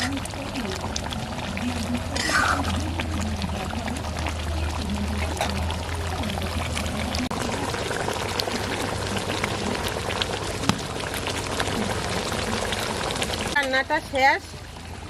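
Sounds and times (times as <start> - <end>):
curry boiling with small pops: 0.0 - 14.6.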